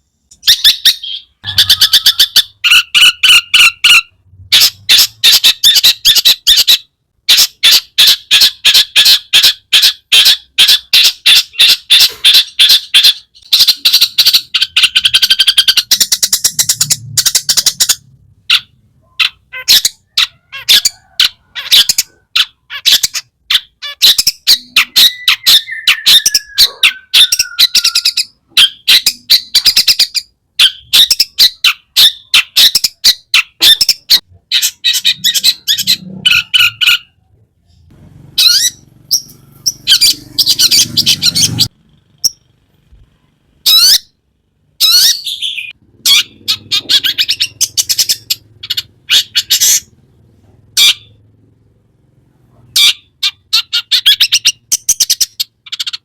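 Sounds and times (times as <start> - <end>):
bird chattering song: 0.3 - 42.6, 44.8 - 50.0, 52.7 - 56.0.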